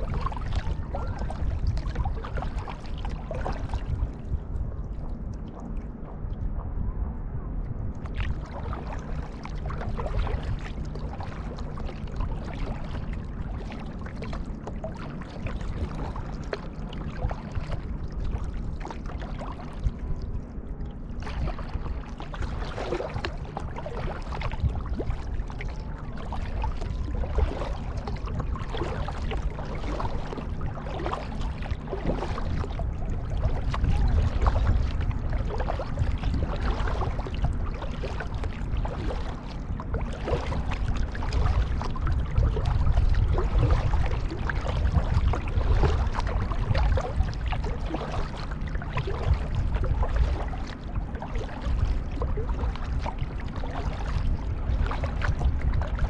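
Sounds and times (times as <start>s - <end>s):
paddle strokes splashing water: 0.0s - 5.9s, 8.0s - 56.0s
low microphone rumble: 0.0s - 56.0s.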